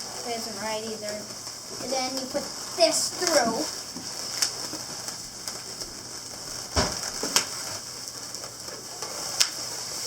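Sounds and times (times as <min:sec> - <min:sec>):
balloon rubbing and crackling: 0:00.0 - 0:10.0.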